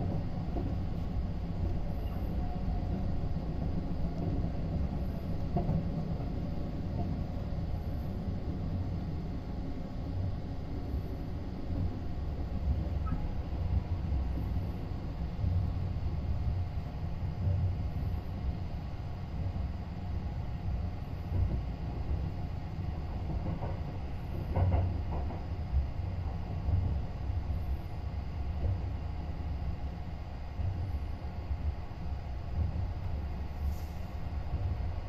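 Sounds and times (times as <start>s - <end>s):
train rumbling on track: 0.0s - 35.0s.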